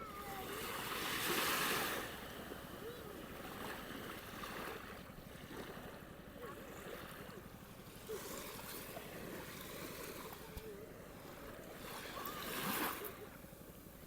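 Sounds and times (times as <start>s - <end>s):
waves breaking on a beach: 0.0s - 14.0s.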